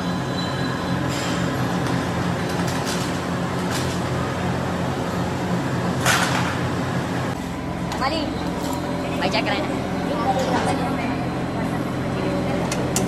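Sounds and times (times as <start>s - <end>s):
furnace rushing and humming: 0.0s - 13.0s.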